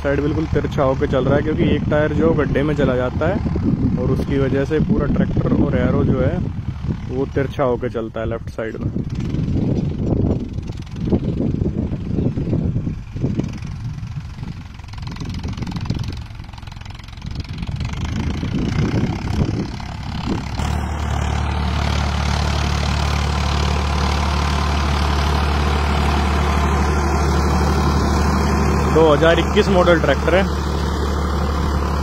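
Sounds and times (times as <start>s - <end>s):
tractor diesel engine: 0.0s - 32.0s.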